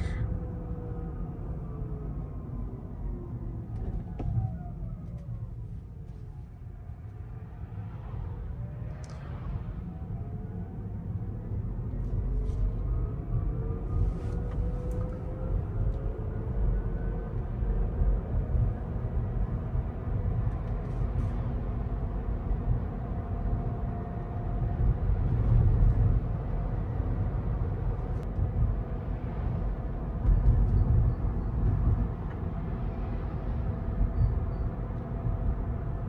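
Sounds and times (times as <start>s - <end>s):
road and tyre rumble: 0.0s - 36.0s.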